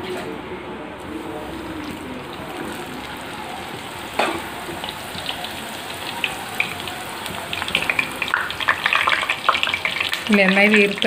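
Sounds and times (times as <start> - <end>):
deep-frying sizzle with crackles: 1.0 - 11.0.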